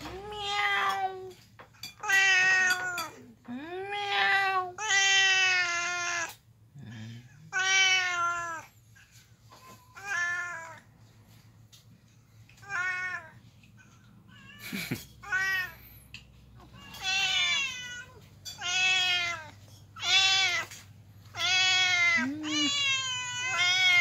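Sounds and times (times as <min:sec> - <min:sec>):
cats meowing: 0:00.0 - 0:06.4, 0:07.5 - 0:08.8, 0:09.5 - 0:10.9, 0:12.6 - 0:24.0.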